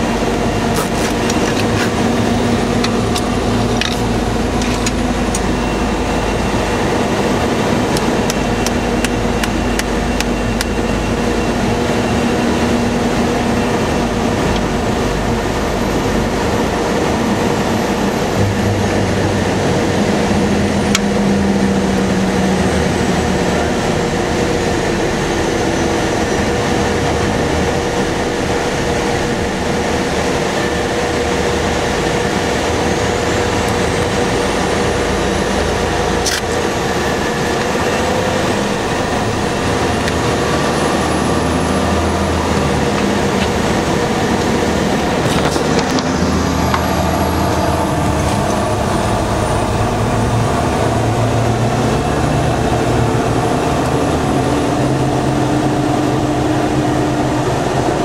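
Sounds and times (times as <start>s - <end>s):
faint high whine: 0.0s - 50.1s
vehicle engine and drivetrain noise: 0.0s - 58.0s.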